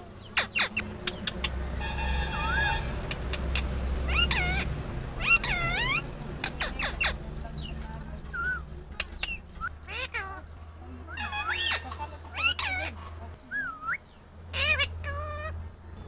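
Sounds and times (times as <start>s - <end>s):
parakeet calling: 0.2s - 10.5s, 11.2s - 13.0s, 13.6s - 15.6s.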